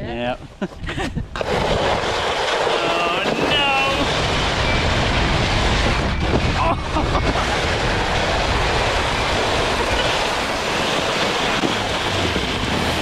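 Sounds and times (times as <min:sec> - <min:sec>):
sled sliding over snow: 0:01.4 - 0:13.0.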